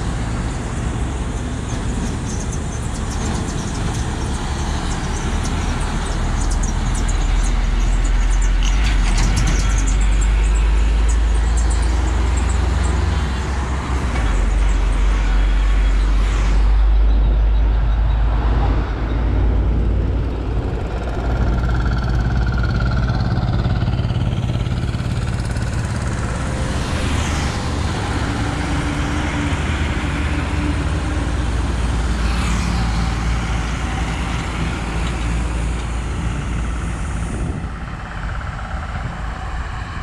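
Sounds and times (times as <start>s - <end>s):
diesel truck engine drone: 0.0s - 40.0s.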